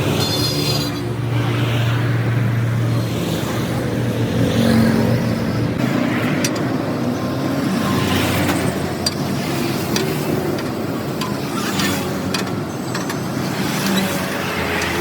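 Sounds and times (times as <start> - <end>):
traffic rumble: 0.0 - 15.0
vehicle engine hum: 0.0 - 15.0.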